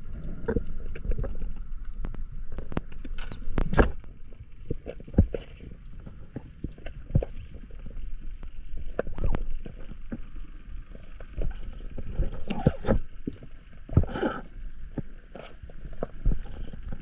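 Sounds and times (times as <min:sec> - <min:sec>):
underwater water rumble: 0:00.0 - 0:17.0.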